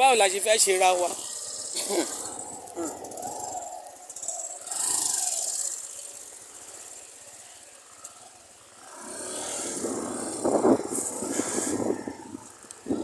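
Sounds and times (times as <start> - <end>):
vehicle on a flooded road: 0.0 - 13.0.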